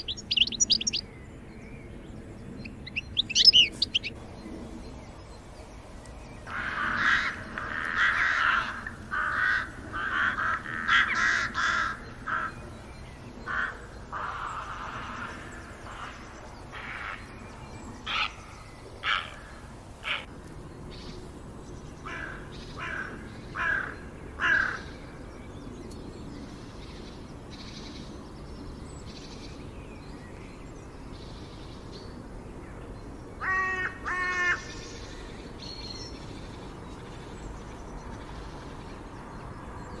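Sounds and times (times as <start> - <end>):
birds calling: 0.0 - 40.0
steady background hiss: 0.0 - 40.0.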